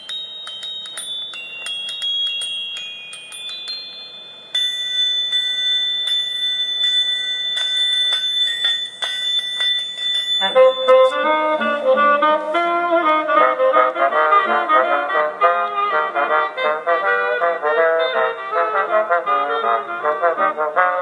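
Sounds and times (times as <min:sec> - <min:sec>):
changing lower tones: 0:00.0 - 0:20.9
high test tones: 0:00.0 - 0:20.9.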